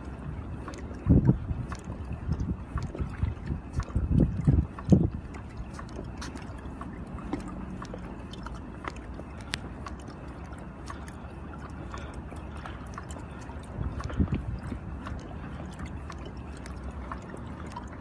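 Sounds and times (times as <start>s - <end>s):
low rush of water: 0.0s - 18.0s
light ticks: 0.7s - 17.8s.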